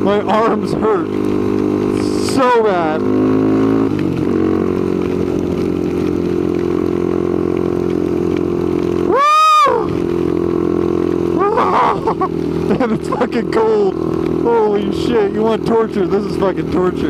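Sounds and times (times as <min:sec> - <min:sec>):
atv engine running: 0:00.0 - 0:17.0
rain noise: 0:00.0 - 0:17.0.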